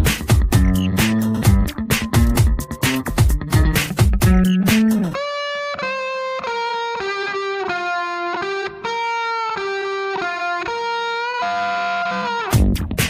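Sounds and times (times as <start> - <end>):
instrumental melody: 0.0 - 13.0.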